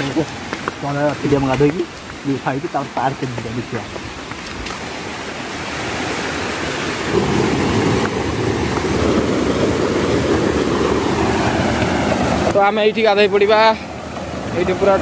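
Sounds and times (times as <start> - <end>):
water rushing over stones: 0.0 - 15.0.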